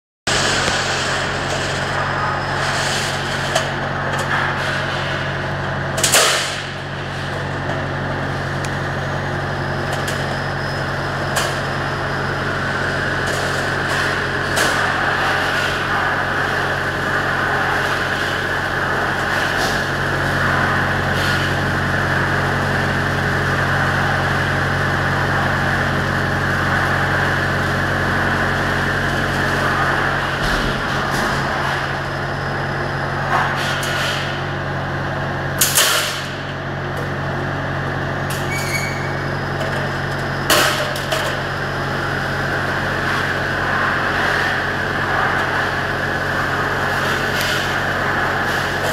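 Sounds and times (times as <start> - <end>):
machine motor hum: 0.3 - 48.9.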